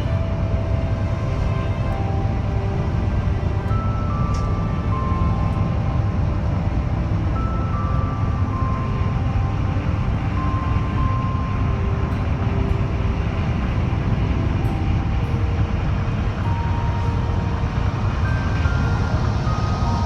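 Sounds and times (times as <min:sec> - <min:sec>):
slow melody of held notes: 0:00.0 - 0:20.0
vehicle rumble: 0:00.0 - 0:20.0.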